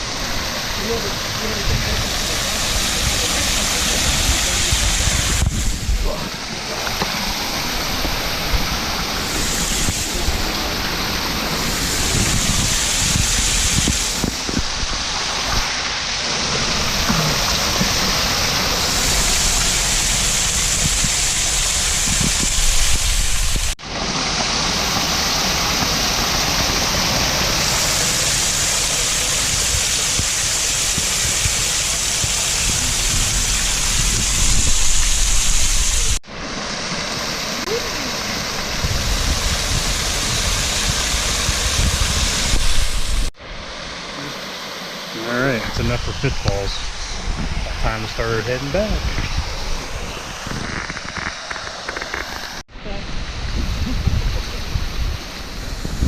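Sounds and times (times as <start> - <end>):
waterfall rushing: 0.0 - 52.6.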